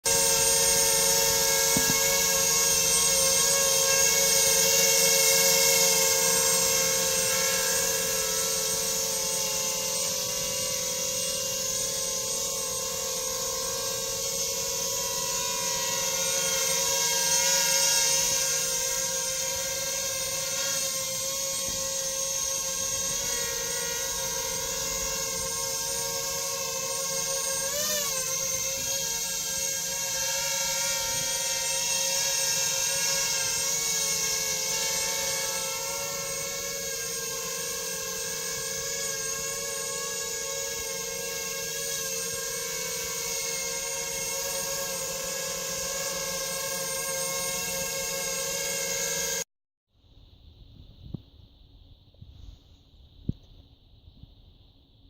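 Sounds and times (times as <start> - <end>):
drone motors whining: 0.1 - 49.4.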